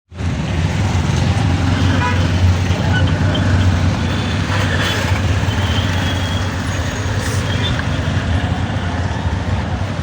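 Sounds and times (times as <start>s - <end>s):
vehicle engine rumbling: 0.1s - 10.0s.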